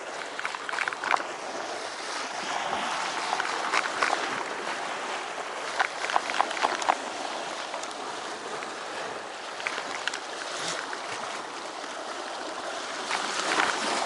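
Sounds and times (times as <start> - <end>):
waves splashing on rocks: 0.0 - 14.0.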